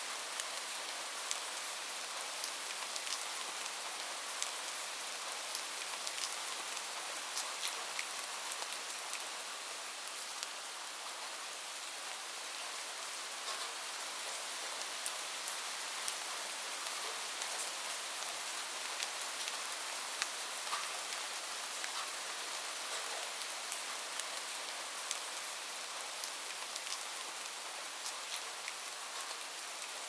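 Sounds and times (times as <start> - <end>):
light rain falling: 0.0 - 30.0
raindrops ticking on a surface: 0.1 - 11.2, 13.4 - 30.0.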